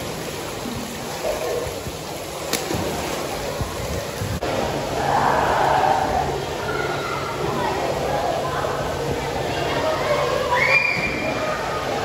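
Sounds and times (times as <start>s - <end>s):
splashing water in pool hall: 0.0s - 12.0s.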